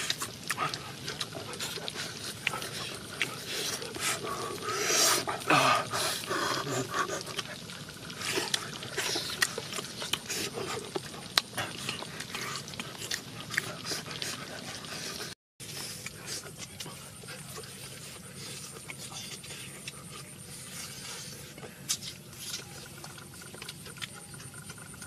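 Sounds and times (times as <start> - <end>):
people chewing and lip-smacking: 0.0 - 25.0.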